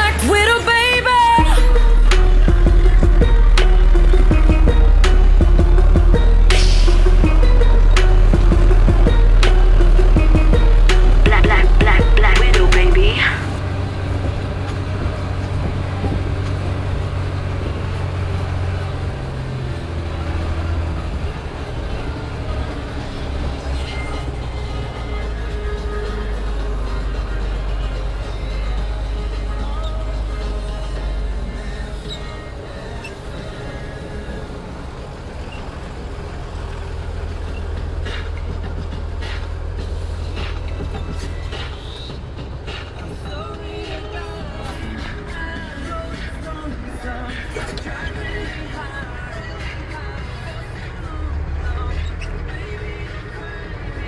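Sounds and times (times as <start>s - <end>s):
music: 0.0s - 54.0s
tractor engine running: 0.0s - 54.0s.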